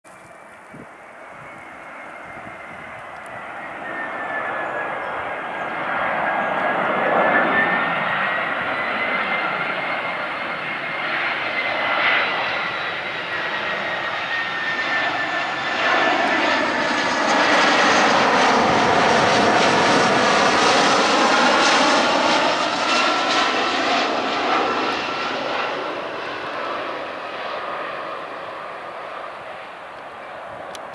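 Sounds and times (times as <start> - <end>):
jet engines passing overhead: 0.1 - 30.9.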